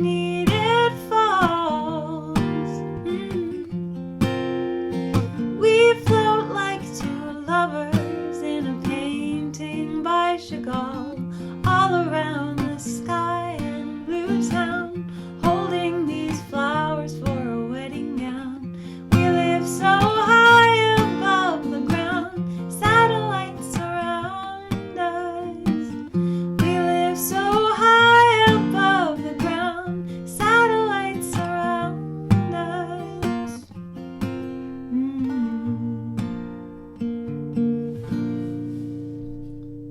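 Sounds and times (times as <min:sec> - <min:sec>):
woman singing: 0:00.0 - 0:03.9, 0:05.2 - 0:33.7, 0:34.4 - 0:36.8
strummed acoustic guitar: 0:00.0 - 0:39.9.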